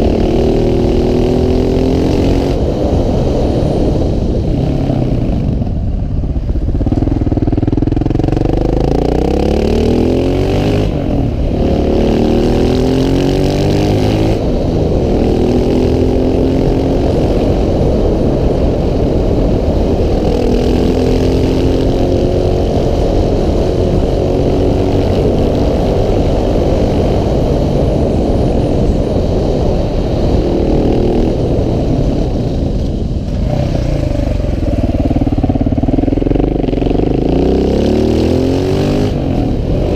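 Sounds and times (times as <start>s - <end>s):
motorbike engine revving: 6.6s - 39.9s.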